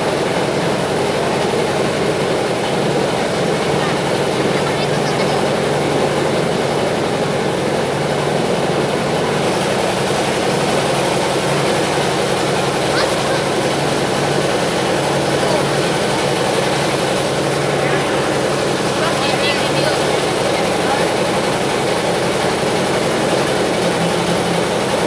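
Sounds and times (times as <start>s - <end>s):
crowd chatter: 0.0s - 25.0s
small engine humming: 0.0s - 25.0s.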